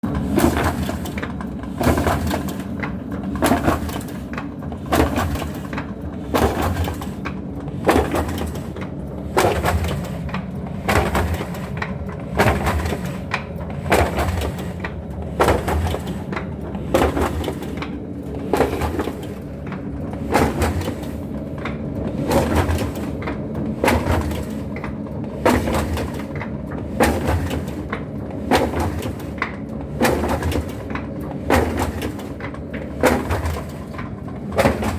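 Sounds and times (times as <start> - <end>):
paper feeder clacking: 0.1 - 34.9.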